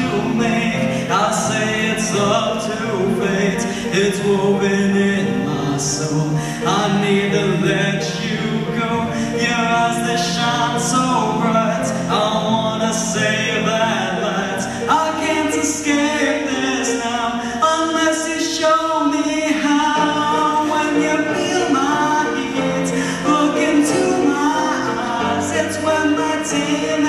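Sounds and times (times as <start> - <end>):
sustained backing chords: 0.0 - 27.0
young man singing a pop ballad: 0.0 - 27.0.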